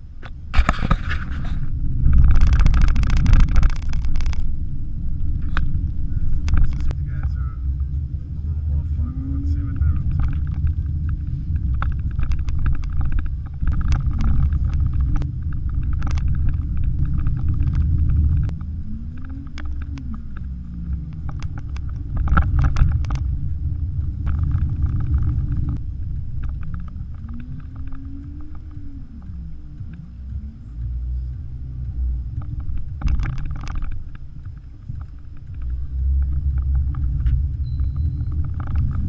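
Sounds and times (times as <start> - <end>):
tyres rumbling on dirt road: 0.0 - 39.0
suspension knocks and rattles: 0.3 - 39.0
car engine note: 1.6 - 39.0.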